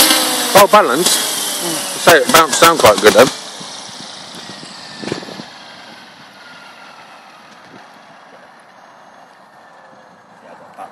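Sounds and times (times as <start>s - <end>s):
rc helicopter whine winding down: 0.0s - 10.5s.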